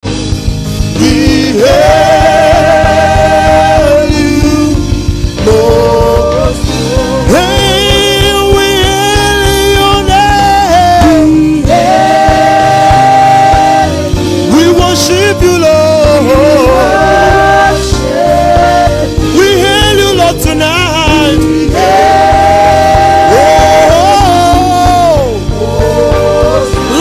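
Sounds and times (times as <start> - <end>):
band with steady beat: 0.0 - 27.0.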